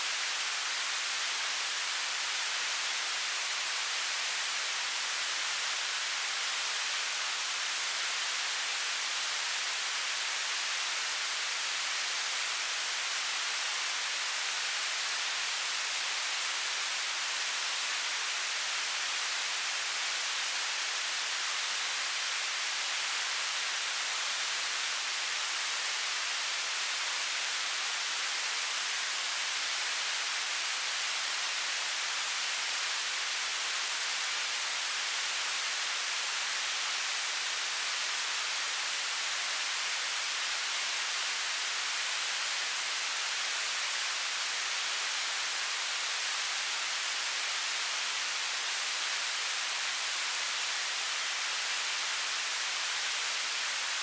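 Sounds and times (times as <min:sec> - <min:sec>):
television static hiss: 0:00.0 - 0:54.0.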